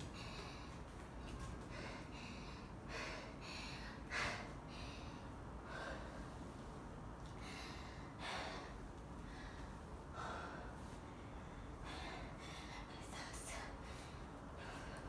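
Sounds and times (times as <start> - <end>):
person breathing noisily: 0.0 - 15.0.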